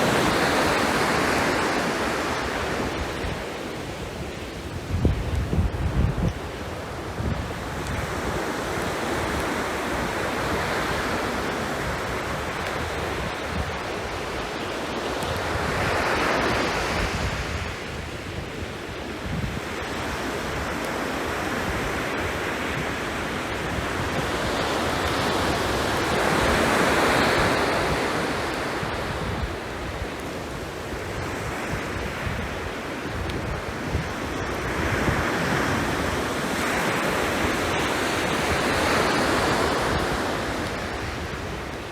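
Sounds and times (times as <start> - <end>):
sea waves breaking on shore: 0.0 - 41.9
wind rumbling on microphone: 0.0 - 41.9.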